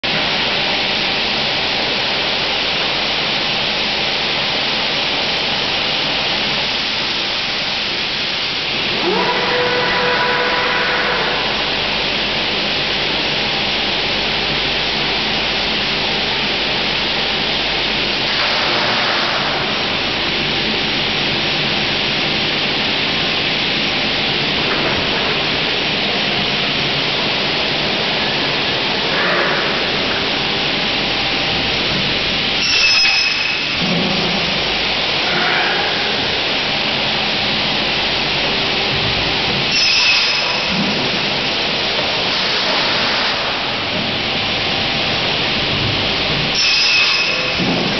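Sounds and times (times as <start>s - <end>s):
machine noise surges: 4.8s - 47.9s.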